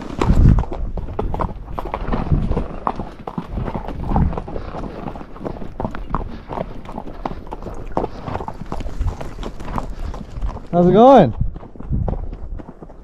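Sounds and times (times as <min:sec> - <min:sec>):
hooves clip-clopping on gravel: 0:00.0 - 0:13.0.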